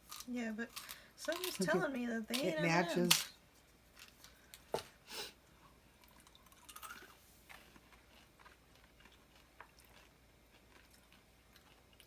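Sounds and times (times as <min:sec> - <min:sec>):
faint chewing of candy: 0:00.0 - 0:02.6, 0:03.6 - 0:12.0.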